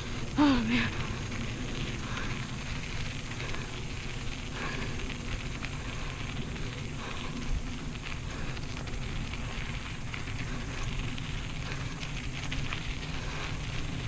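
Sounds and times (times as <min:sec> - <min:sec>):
bicycle tyres rolling on dirt: 0:00.0 - 0:14.0
small rattles and ticks: 0:00.0 - 0:14.0.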